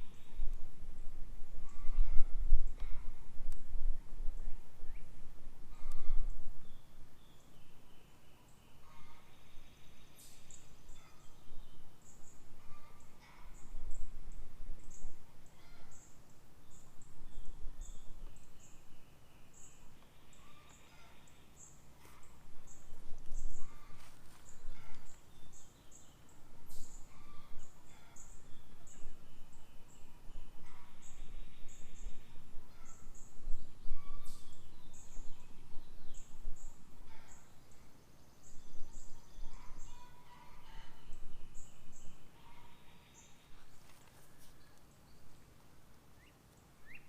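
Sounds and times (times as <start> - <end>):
birds calling: 5.7 - 47.0.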